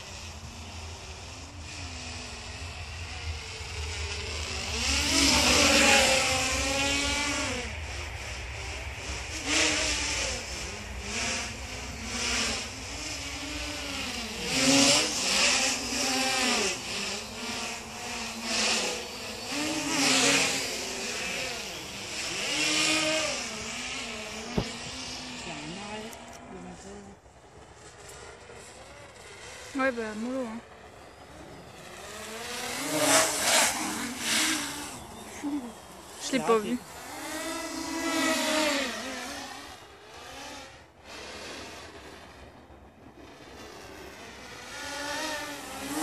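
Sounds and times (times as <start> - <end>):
drone motors buzzing: 0.0 - 46.0.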